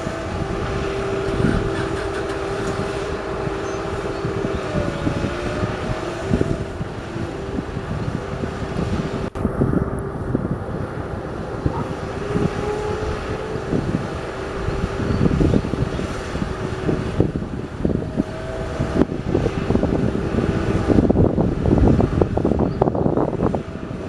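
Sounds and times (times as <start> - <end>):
faint steady whine: 0.0 - 24.0
heavy vehicle engine running: 0.0 - 24.0
wind buffeting microphone: 0.0 - 24.0.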